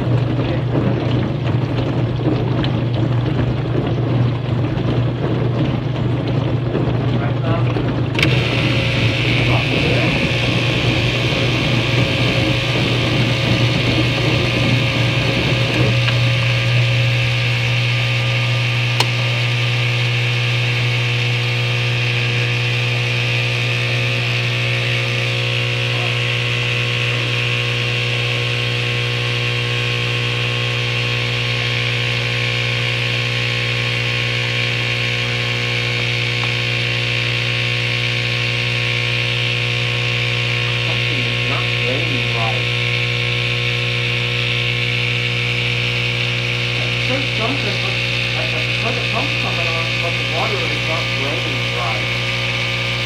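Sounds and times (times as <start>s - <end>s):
machine humming and hissing: 5.4s - 53.0s.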